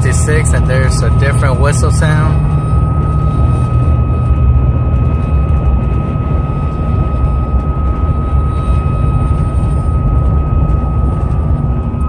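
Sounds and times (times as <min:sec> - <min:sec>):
heavy low wind: 0:00.0 - 0:12.0
road rumble: 0:00.0 - 0:12.0.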